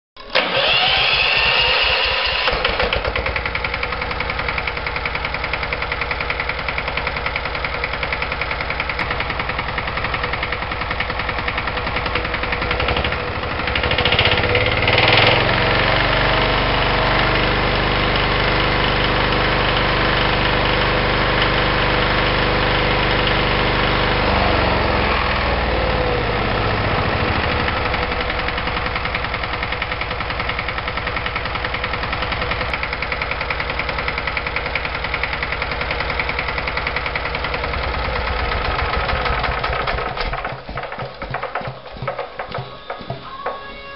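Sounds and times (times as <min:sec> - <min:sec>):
diesel engine knocking: 0:02.4 - 0:17.2, 0:22.8 - 0:43.9.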